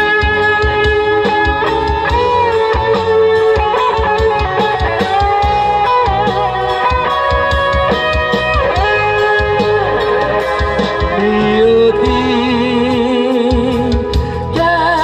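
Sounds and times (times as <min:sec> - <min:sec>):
bass guitar: 0:00.0 - 0:15.0
electric guitar melody: 0:00.0 - 0:15.0
steady drum beat: 0:00.0 - 0:15.0.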